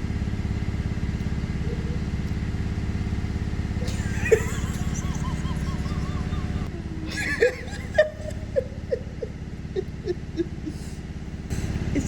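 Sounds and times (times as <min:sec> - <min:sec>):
low pulsing mechanical drone: 0:00.0 - 0:12.0.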